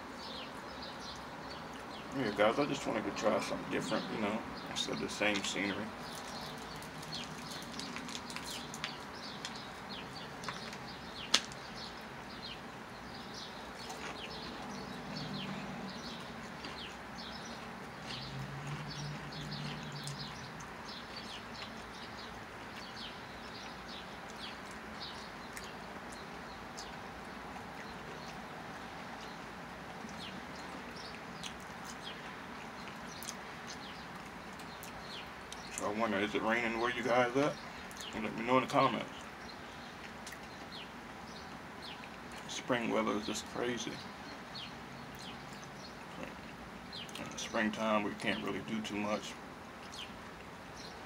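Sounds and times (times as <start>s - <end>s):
air conditioning unit humming: 0.0s - 51.0s.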